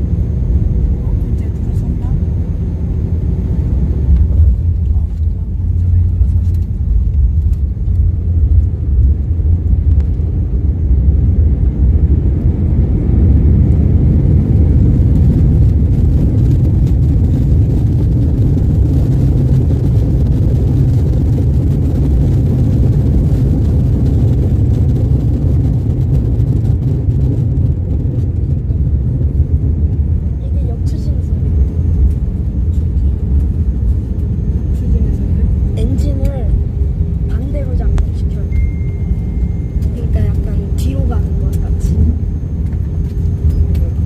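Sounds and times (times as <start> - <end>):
airplane landing rumble: 0.0 - 44.0.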